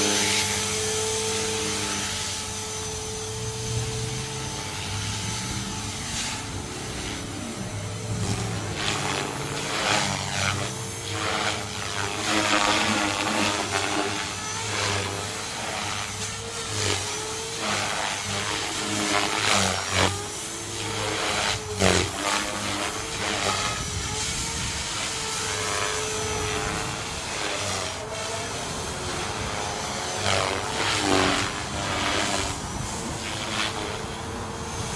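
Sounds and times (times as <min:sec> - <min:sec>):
remote-control helicopter whine: 0:00.0 - 0:34.9.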